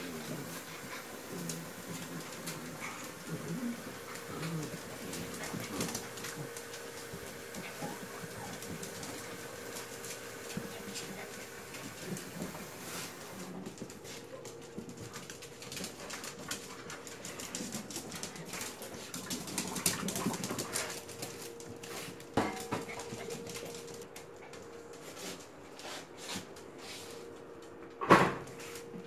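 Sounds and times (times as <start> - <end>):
puppies scampering on tile: 0.0 - 27.9.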